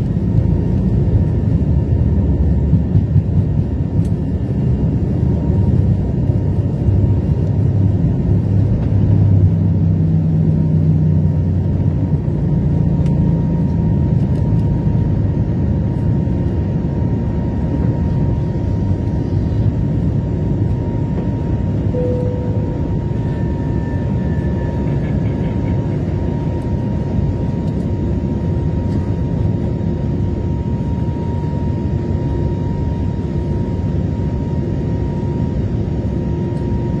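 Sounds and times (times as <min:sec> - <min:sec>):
jet engine roar in cabin: 0:00.0 - 0:37.0
thin steady whine: 0:00.0 - 0:37.0.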